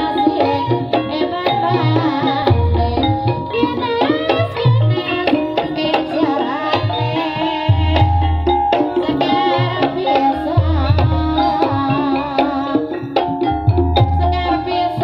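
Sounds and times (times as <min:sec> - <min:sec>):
person singing: 0:00.0 - 0:13.2
hand drums beating: 0:00.0 - 0:15.0
ringing metallophone notes: 0:00.0 - 0:15.0.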